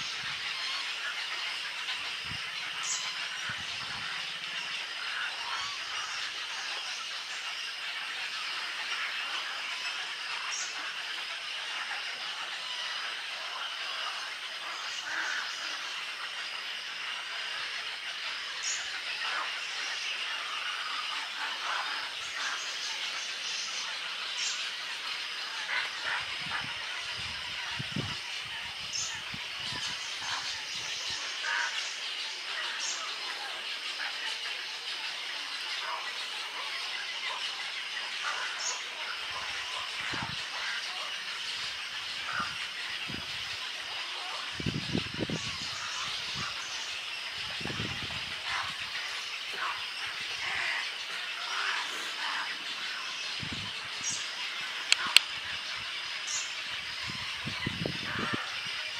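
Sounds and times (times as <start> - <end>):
birds calling in colony: 0.0 - 58.9.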